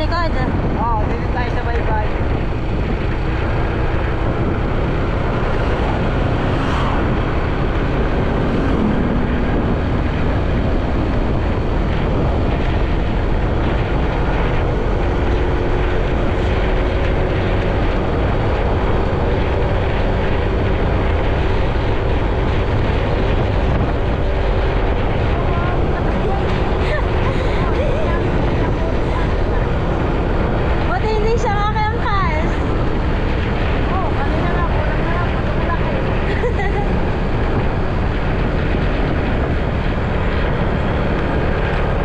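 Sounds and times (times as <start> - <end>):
motorcycle running: 0.0 - 42.0
wind buffeting microphone: 0.0 - 42.0.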